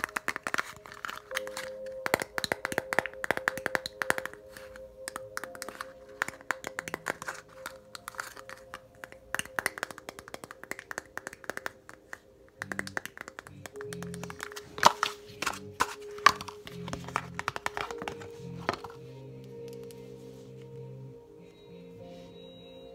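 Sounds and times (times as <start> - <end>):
quiet background music: 0.0 - 22.9.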